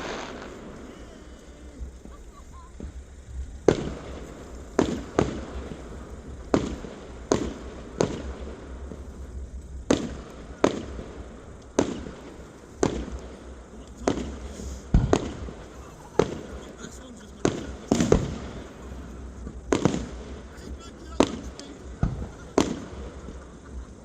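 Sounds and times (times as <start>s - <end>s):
fireworks bangs: 0.0s - 24.0s
steady low rumble: 0.0s - 24.0s.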